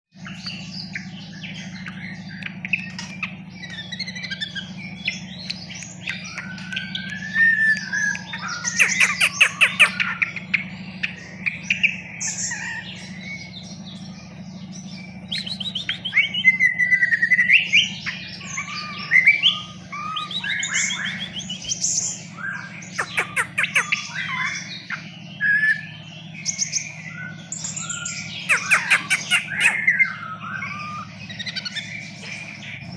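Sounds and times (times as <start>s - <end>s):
bird whistling and trilling: 0.2s - 32.9s
steady low hum: 0.2s - 32.9s.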